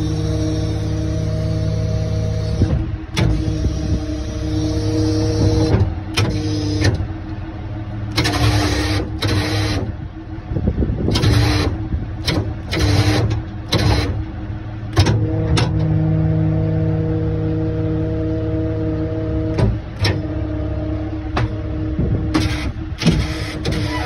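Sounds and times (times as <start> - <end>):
hydraulic pump hum: 0.0 - 24.0.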